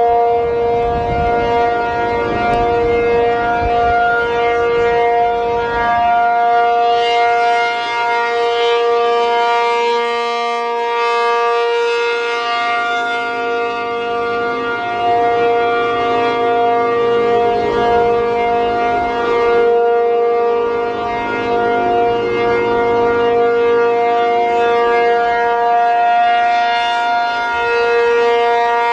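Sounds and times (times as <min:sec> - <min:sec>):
civil defense siren two-note chord: 0:00.0 - 0:28.9.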